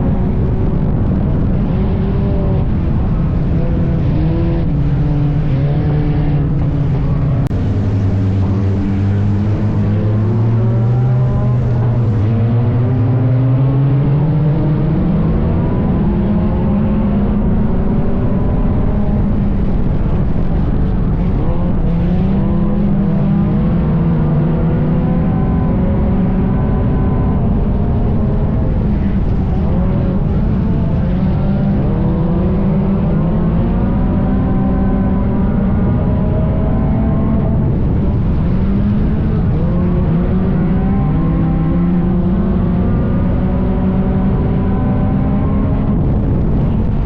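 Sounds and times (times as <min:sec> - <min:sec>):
race car engine revving: 0:00.0 - 0:47.0.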